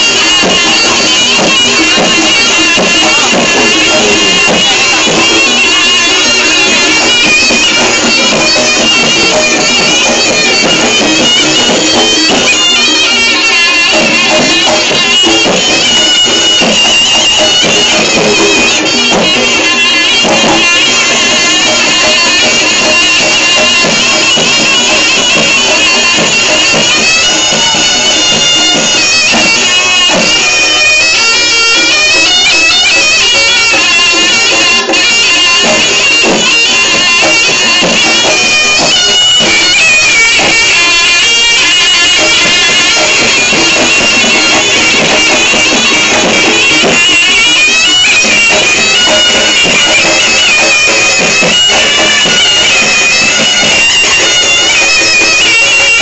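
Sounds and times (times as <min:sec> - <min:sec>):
drum strokes: 0:00.0 - 0:56.0
shawm playing high melody: 0:00.0 - 0:56.0.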